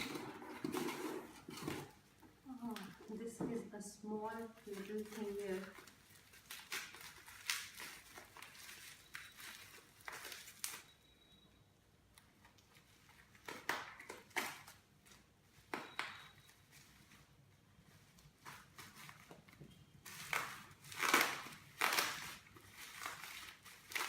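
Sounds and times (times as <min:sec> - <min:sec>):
packaging crinkling and rustling: 0:00.0 - 0:03.3, 0:04.2 - 0:11.0, 0:12.4 - 0:24.0.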